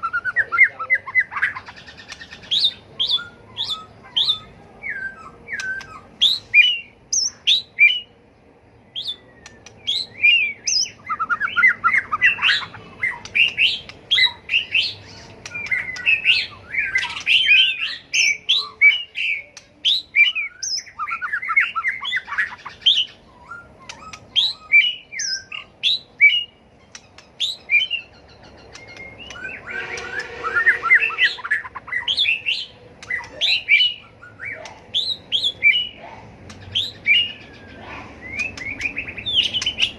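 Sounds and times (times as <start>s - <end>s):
bird singing whistled phrases: 0.0s - 8.1s, 8.9s - 36.0s, 36.7s - 39.9s.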